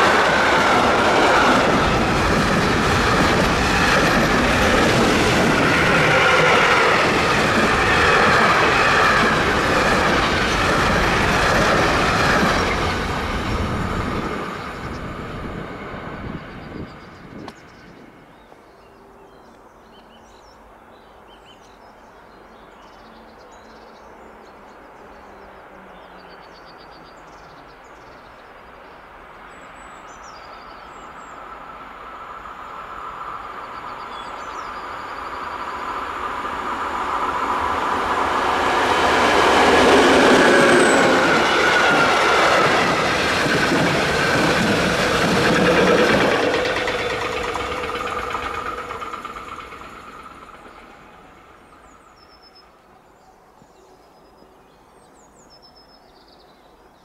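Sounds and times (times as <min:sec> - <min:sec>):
train passing: 0:00.0 - 0:19.4, 0:21.7 - 0:53.6.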